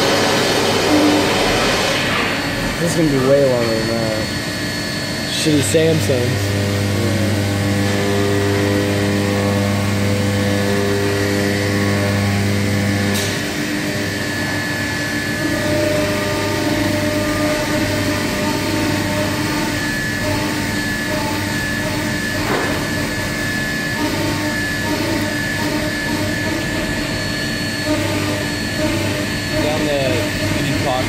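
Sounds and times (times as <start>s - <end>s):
milling machine hum: 0.0s - 31.0s.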